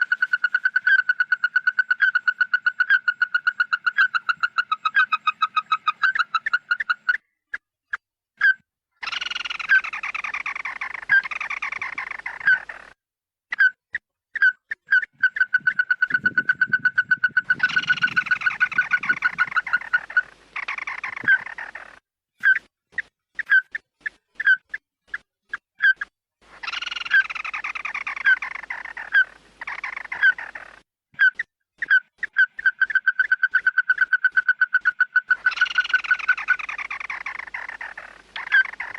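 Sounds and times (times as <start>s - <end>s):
harsh bird chattering: 0.0s - 7.7s, 8.4s - 25.2s, 25.8s - 38.9s
bird calls: 0.0s - 38.9s.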